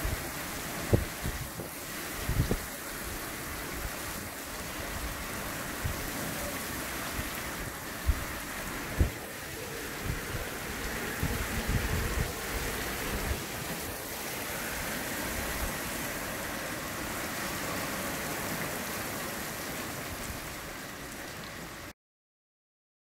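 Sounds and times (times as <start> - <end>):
wind rumbling on microphone: 0.0 - 20.6
heavy rain pouring: 0.0 - 21.9.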